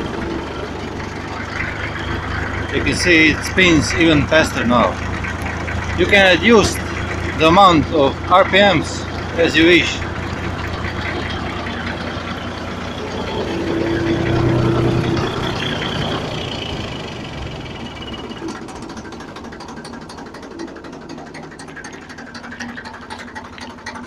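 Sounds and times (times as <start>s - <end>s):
conveyor chain clattering: 0.0s - 24.0s
tractor engine running: 0.0s - 24.0s.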